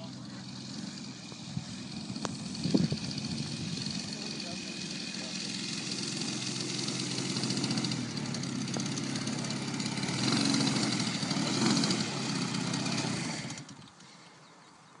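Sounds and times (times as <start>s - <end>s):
model plane engine idling and revving: 0.0s - 15.0s.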